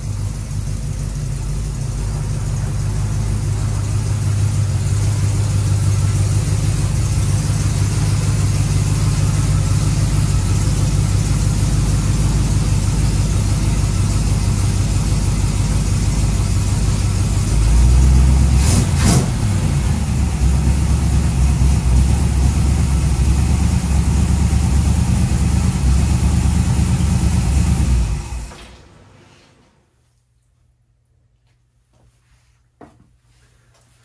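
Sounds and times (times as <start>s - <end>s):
car engine running: 0.0s - 28.5s.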